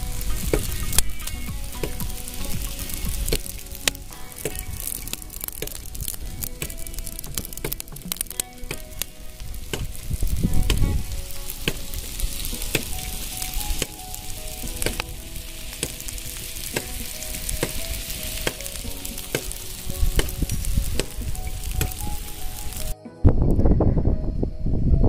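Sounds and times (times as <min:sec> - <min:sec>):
food sizzling on hot stone: 0:00.0 - 0:23.0
sharp pops and crackles: 0:00.0 - 0:23.0.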